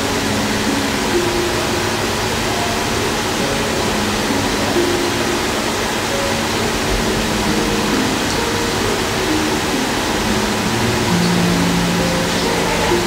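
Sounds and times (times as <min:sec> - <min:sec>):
constant hiss: 0:00.0 - 0:13.0
soft slow background melody: 0:00.0 - 0:13.0.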